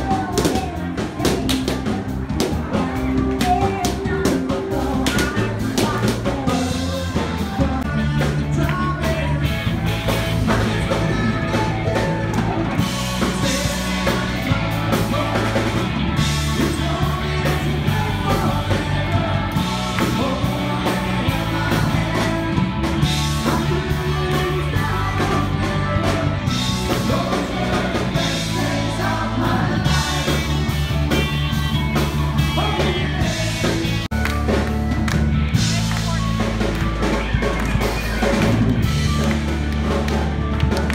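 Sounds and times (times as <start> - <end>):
person singing: 0.0 - 34.1
bass line: 0.0 - 40.9
live rock and roll band: 0.0 - 40.9.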